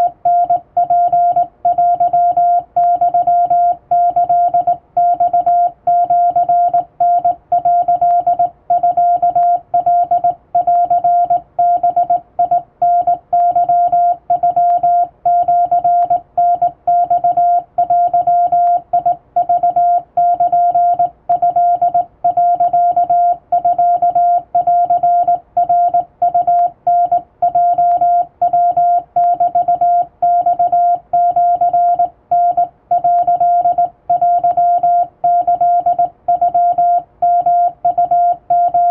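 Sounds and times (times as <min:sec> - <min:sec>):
morse code beeping: 0:00.0 - 0:38.9.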